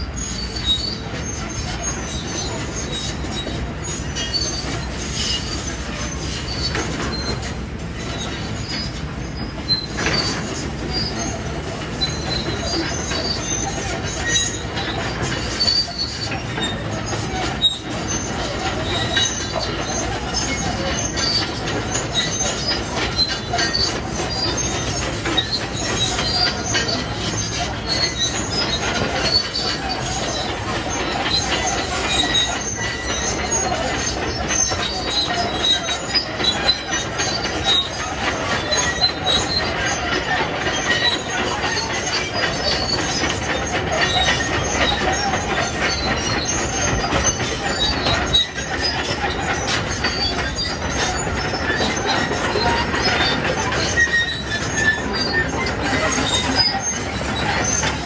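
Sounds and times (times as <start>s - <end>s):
construction machinery engine: 0.0s - 58.0s
high-pitched metallic squeaks: 0.0s - 58.0s.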